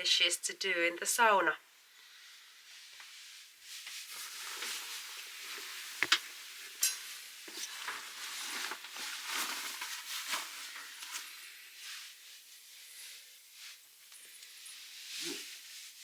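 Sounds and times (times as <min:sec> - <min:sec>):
rustling and crunching handling: 0:02.8 - 0:16.0.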